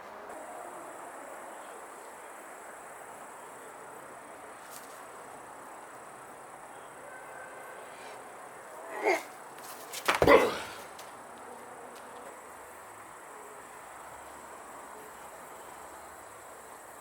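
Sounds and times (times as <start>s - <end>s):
insect drone: 0.1s - 17.0s.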